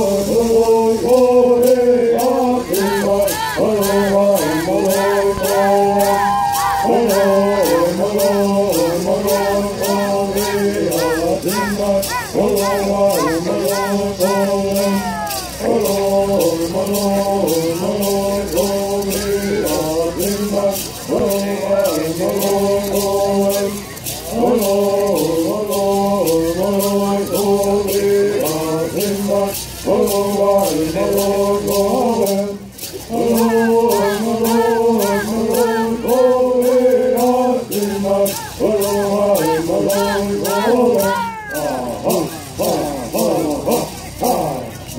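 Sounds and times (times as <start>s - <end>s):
gourd rattles shaken: 0.0s - 44.9s
men singing in unison: 0.0s - 44.9s.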